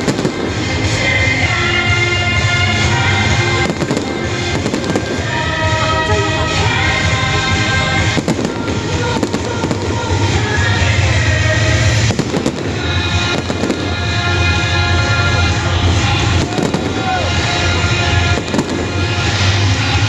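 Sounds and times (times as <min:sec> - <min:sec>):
fireworks bangs and crackles: 0:00.0 - 0:20.0
loud music with held tones: 0:00.0 - 0:20.0.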